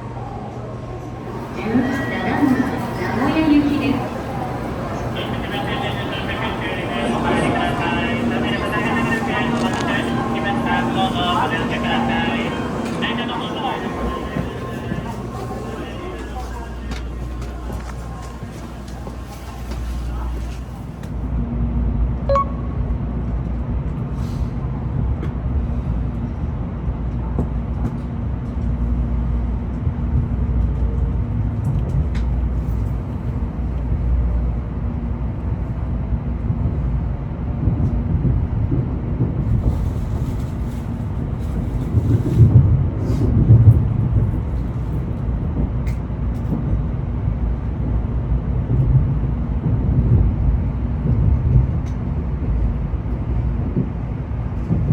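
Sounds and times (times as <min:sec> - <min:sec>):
train running: 0:00.9 - 0:54.9.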